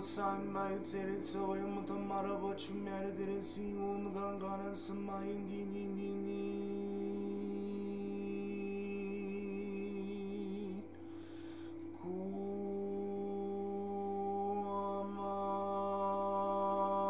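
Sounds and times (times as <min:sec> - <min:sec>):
higher steady drone tones: 0:00.0 - 0:17.0
synthesized drone: 0:00.0 - 0:17.0.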